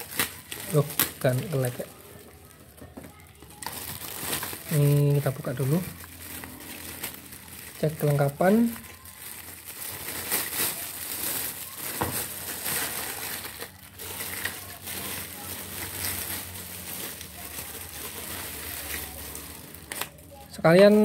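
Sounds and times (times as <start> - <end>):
plastic wrapping crinkling: 0.0 - 21.0.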